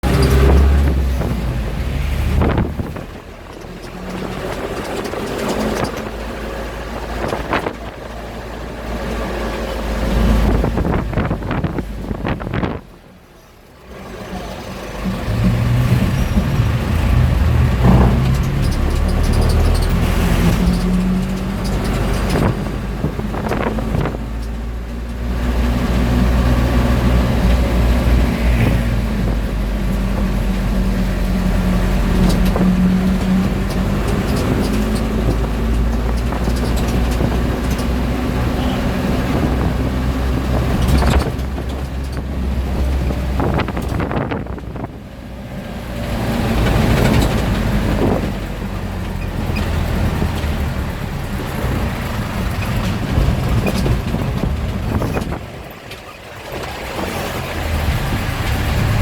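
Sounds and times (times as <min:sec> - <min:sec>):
car engine running: 0:00.0 - 0:45.0, 0:46.5 - 0:59.0
road and street noise: 0:00.0 - 0:59.0.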